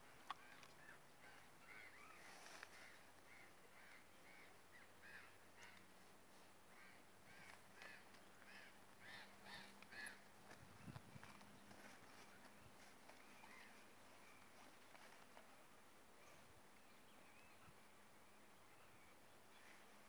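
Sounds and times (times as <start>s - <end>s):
faint birds calling: 0.0s - 20.0s.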